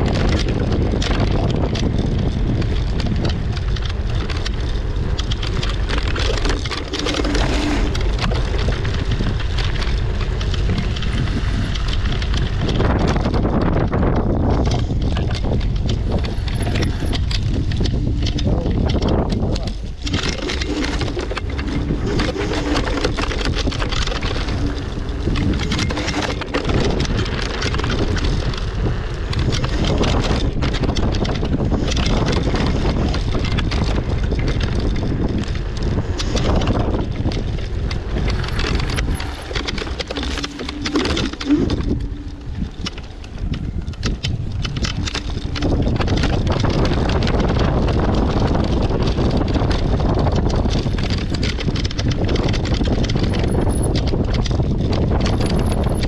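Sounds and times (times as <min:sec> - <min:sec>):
off-road vehicle engine under load: 0:00.0 - 0:56.0
wind buffeting microphone: 0:00.0 - 0:56.0.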